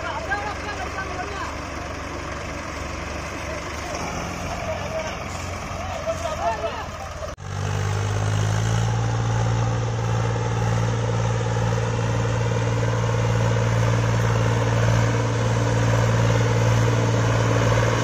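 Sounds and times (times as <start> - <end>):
tractor diesel engine droning: 0.0 - 18.0.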